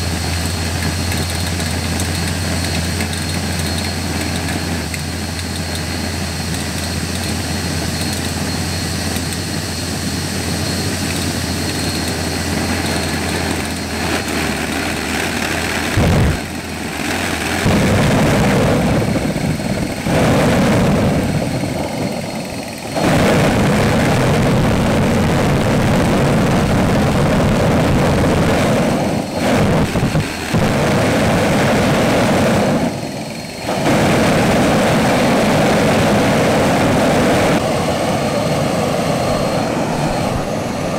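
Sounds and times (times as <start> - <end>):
jet engine roaring: 0.0 - 40.9
vacuum blower humming: 3.6 - 40.9.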